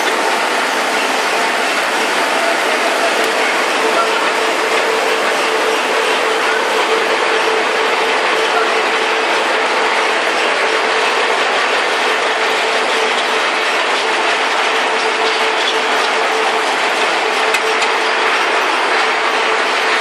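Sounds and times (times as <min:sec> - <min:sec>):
machinery rattling: 0:00.0 - 0:20.0
steady machine hum: 0:00.0 - 0:20.0.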